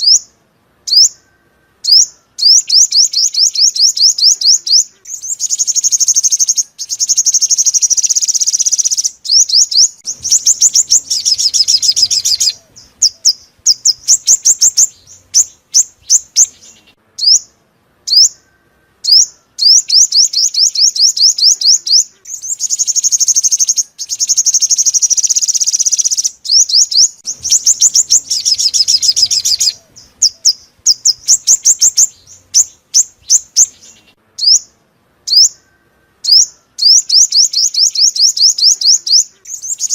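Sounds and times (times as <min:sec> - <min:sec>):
bird sharp chirps: 0:00.0 - 0:39.9
bird high-pitched trills: 0:00.9 - 0:39.9.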